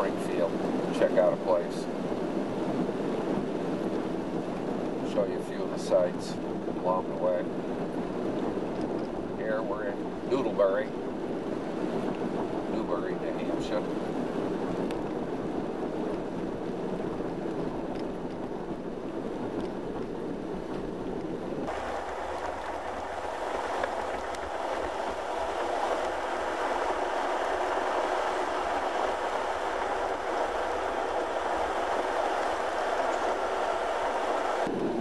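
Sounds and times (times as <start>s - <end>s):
road and engine noise inside vehicle: 0.0s - 35.0s.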